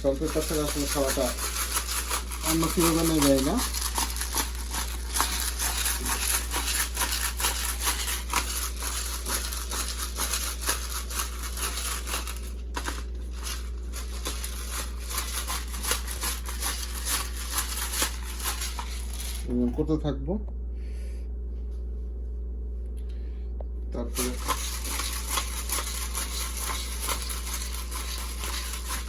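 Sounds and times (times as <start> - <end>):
food preparation clicks and rustles: 0.0 - 19.9, 24.1 - 29.0
steady low hum: 0.0 - 29.0.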